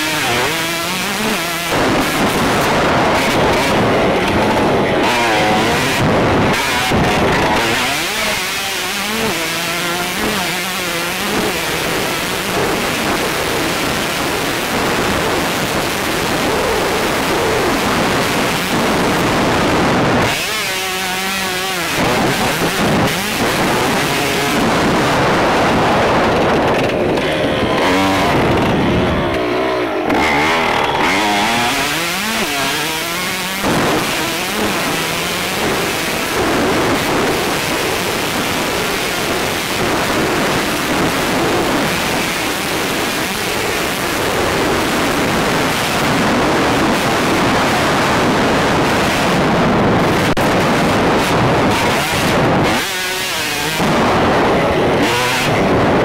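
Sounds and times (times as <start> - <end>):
motocross bike engine revving: 0.0 - 56.0
wind noise on microphone: 0.0 - 56.0.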